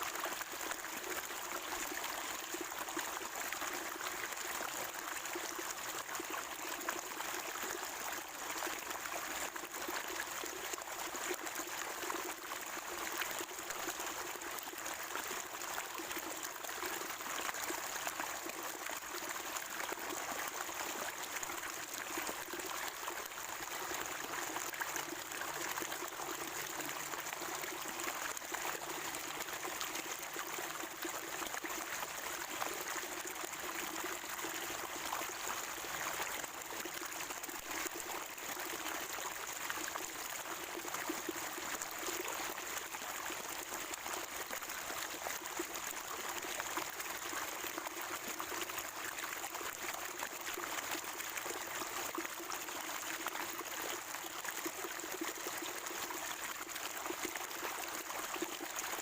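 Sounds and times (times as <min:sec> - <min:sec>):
spring water gurgling: 0:00.0 - 0:59.0.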